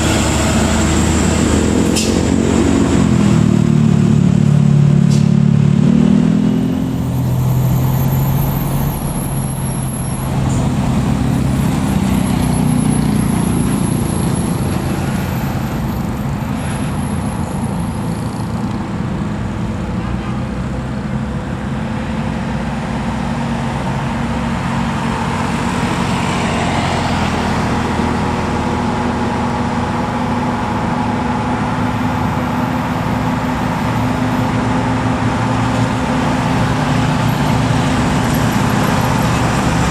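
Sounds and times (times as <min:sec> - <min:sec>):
diesel truck engines labouring: 0:00.0 - 0:39.9.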